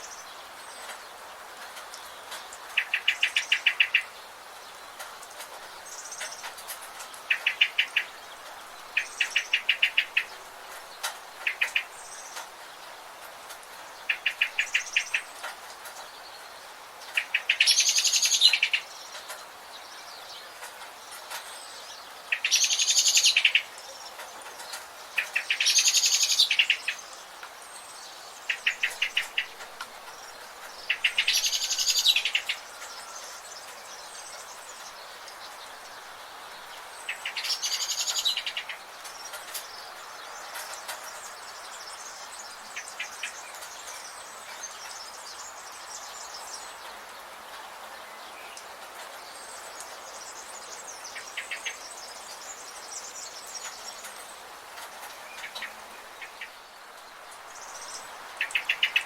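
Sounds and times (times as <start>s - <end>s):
steady background hiss: 0.0s - 59.0s
trilled bird calls: 1.8s - 4.2s, 4.8s - 12.9s, 14.0s - 47.0s, 49.4s - 59.0s.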